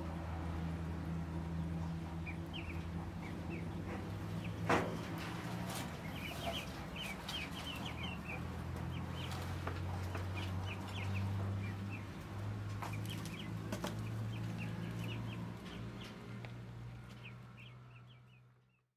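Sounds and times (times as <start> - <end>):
chickens clucking: 1.4 - 18.2.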